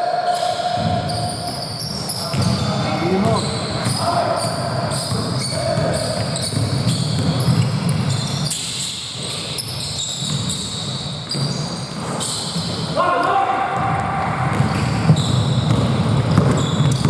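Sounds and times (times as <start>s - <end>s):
sneaker squeaks: 0.3s - 13.0s, 14.5s - 17.0s.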